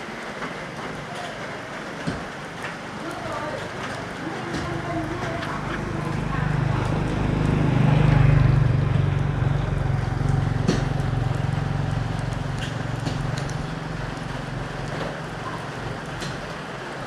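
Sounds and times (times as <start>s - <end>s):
vehicle engine low hum: 1.8s - 17.0s.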